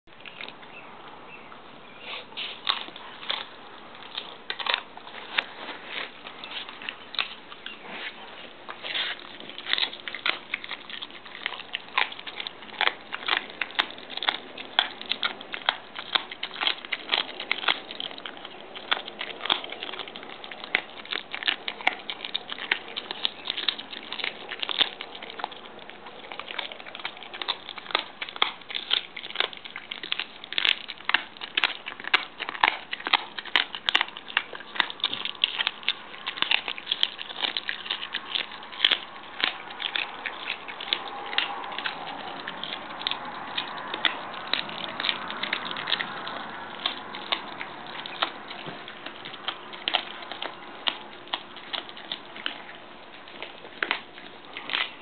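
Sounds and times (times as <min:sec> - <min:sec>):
dog crunching bones: 0:00.1 - 0:01.2, 0:02.0 - 0:55.0.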